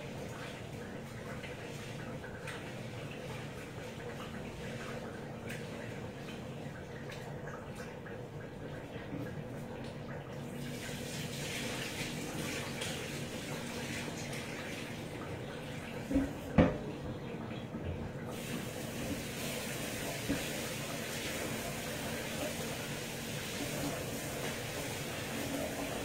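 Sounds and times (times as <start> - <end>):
tap running into a sink: 1.2 - 26.0.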